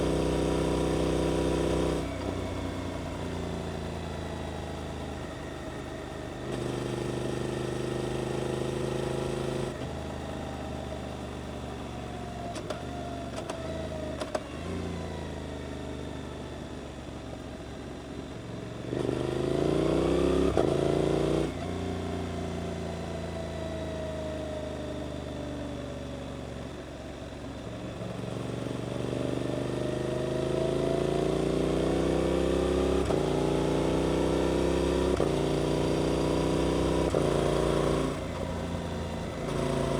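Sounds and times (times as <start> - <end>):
motorcycle engine accelerating: 0.0 - 17.8, 18.7 - 26.4, 27.8 - 39.9.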